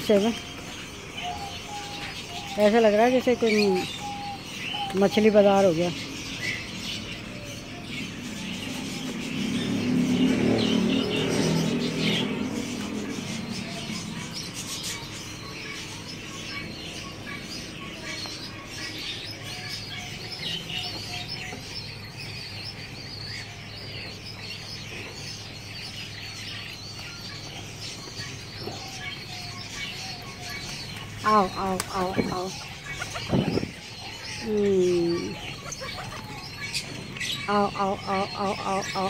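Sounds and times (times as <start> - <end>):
birds chirping: 0.0 - 39.0
low warbling bird: 0.0 - 39.0.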